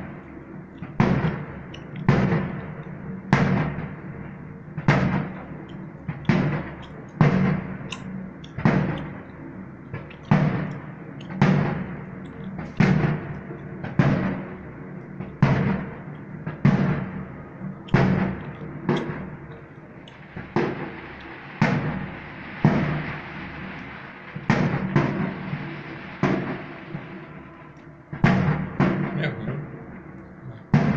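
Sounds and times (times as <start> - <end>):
firework shells bursting: 0.0 - 30.9.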